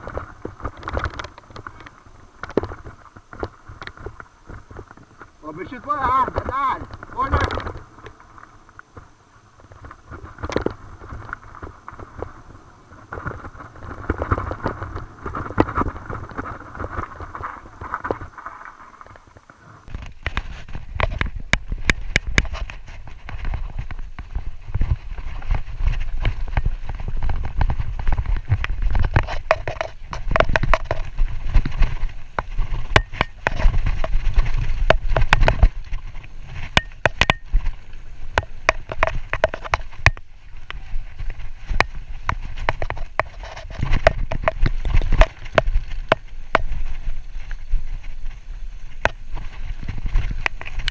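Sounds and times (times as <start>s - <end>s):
bike rattling and clattering: 0.0s - 50.9s
bike tyres on dirt trail: 0.0s - 50.9s.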